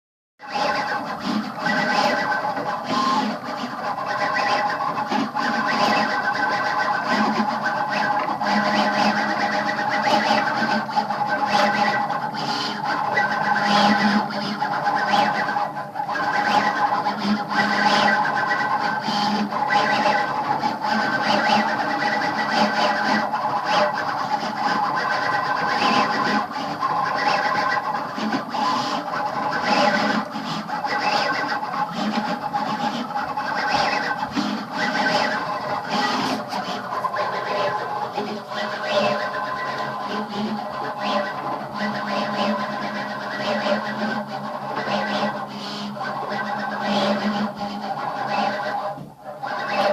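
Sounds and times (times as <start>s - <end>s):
cutter working wood: 0.4s - 49.9s.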